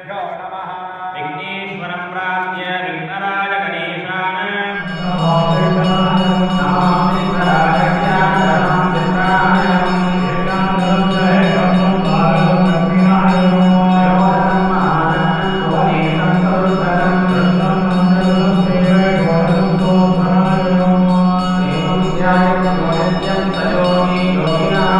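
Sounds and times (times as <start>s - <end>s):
men chanting together: 3.2s - 24.9s.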